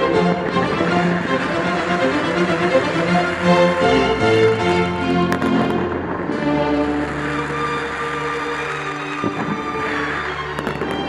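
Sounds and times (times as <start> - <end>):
orchestral sustained chord: 0.0 - 11.0.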